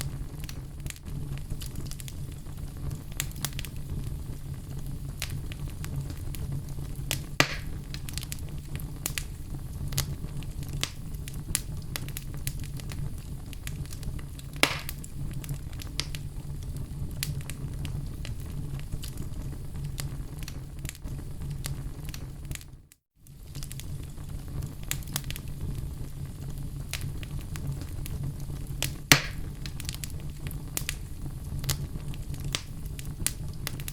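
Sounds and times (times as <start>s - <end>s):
fire popping: 0.0s - 33.9s
log fire crackling: 0.0s - 33.9s.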